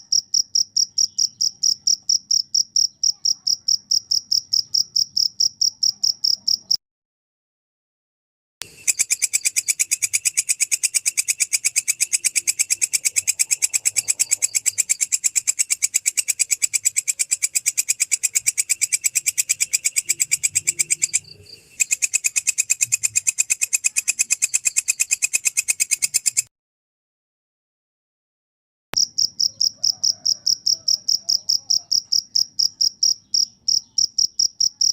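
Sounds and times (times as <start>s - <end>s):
cricket chirping: 0.0s - 6.8s, 8.6s - 26.5s, 29.0s - 34.9s.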